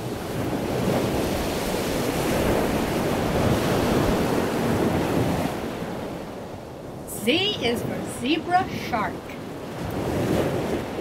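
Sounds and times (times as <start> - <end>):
ocean waves rushing: 0.0 - 11.0.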